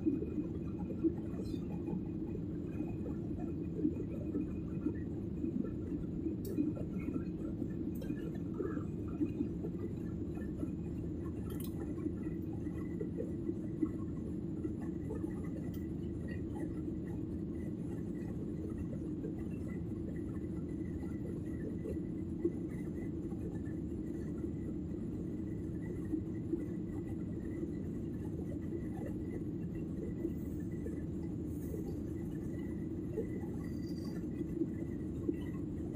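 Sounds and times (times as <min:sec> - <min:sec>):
airliner cabin engine rumble: 0:00.0 - 0:35.9.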